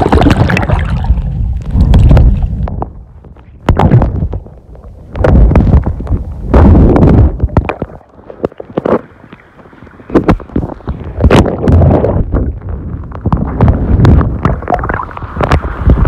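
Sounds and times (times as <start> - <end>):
low underwater rumbles: 0.0 - 16.0
water splashing and sloshing: 0.0 - 16.0.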